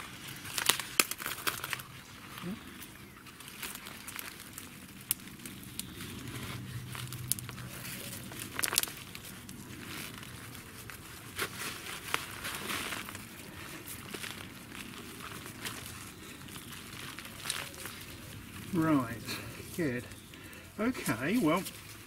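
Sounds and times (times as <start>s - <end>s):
crackles and clicks: 0.0s - 22.0s
hands rustling through leaves: 0.0s - 22.0s
hands working in soil: 0.0s - 22.0s.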